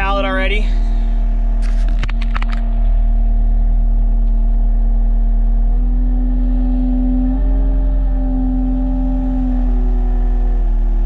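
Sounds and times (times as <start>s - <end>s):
machine engine running: 0.0s - 11.0s.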